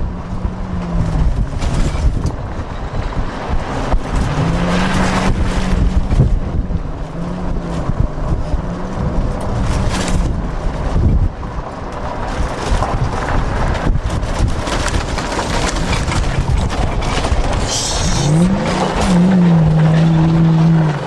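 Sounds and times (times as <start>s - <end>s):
truck engine rumbling and revving: 0.0s - 21.0s.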